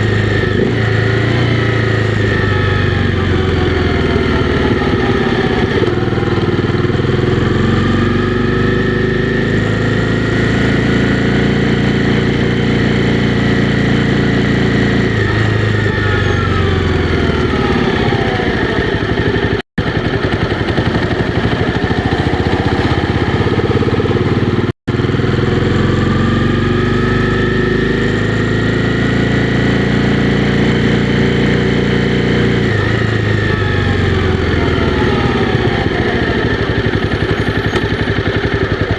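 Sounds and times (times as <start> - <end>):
motorcycle engine under way: 0.0 - 38.9.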